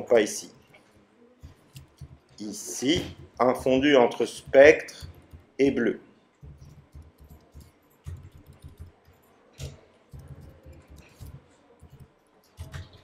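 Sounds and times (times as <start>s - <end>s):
typing on a keyboard: 0.6s - 5.8s, 6.4s - 13.0s.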